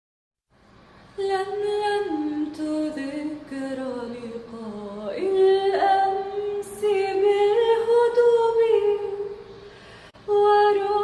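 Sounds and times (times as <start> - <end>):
high voice singing unaccompanied: 1.2 - 9.5, 10.3 - 11.0.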